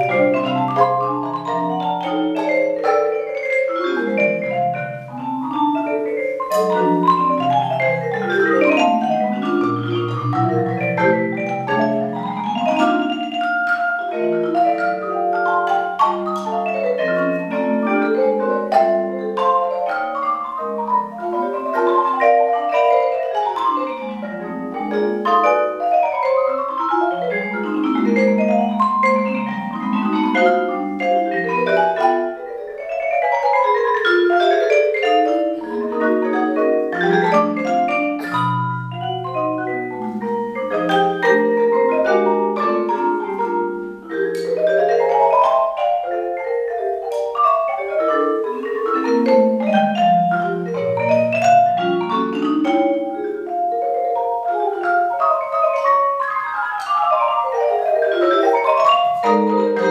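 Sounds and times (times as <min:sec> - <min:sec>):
deep marimba notes: 0:00.0 - 0:59.9
marimba and vibraphone duet: 0:00.0 - 0:59.9.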